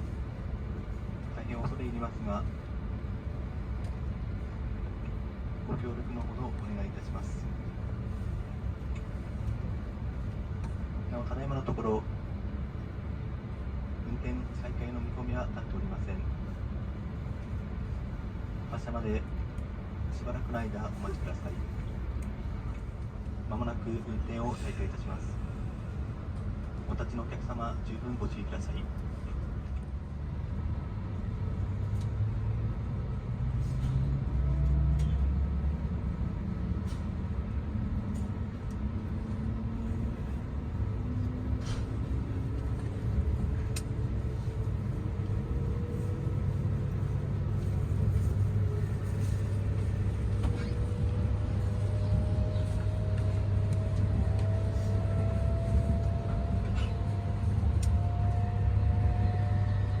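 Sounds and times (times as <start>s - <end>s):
train low rumble: 0.0s - 60.0s.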